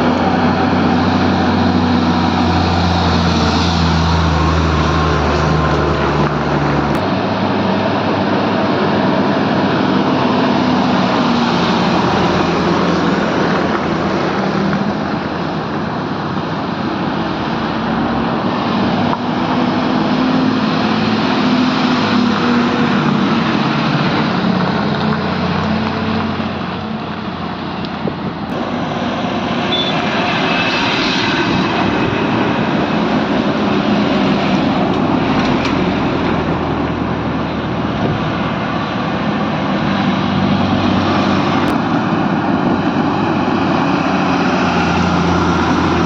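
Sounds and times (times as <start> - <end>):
trucks and cars passing: 0.0 - 46.0.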